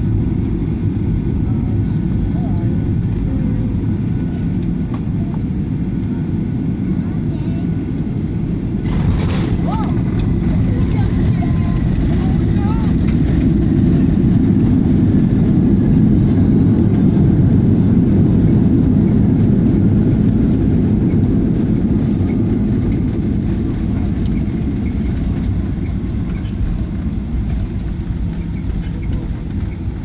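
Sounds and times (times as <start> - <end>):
airplane landing rumble: 0.0 - 30.0.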